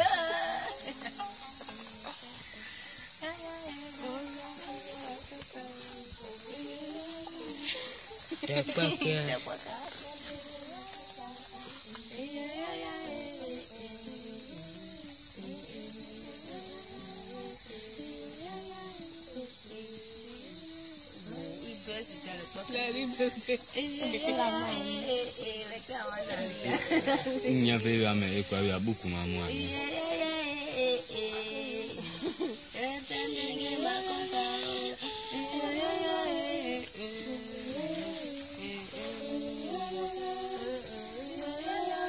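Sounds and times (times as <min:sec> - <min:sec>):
crickets chirping: 0:00.0 - 0:42.0
soft voices singing gliding notes: 0:00.0 - 0:42.0.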